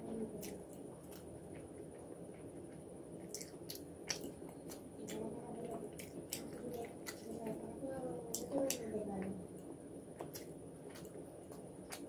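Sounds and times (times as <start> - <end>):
chewing food: 0.0 - 12.0.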